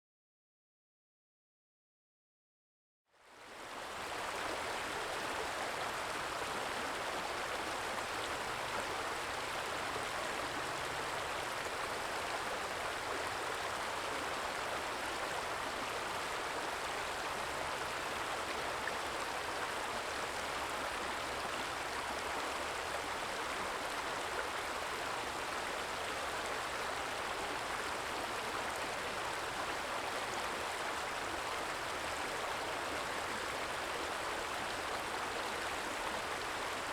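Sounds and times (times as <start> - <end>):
stream trickling: 3.3 - 36.9.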